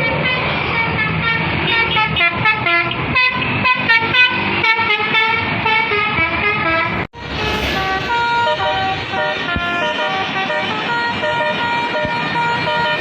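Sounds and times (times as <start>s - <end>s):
bus engine rumble: 0.0s - 13.0s
multi-tone bus horn melody: 0.0s - 13.0s
traffic: 0.0s - 13.0s.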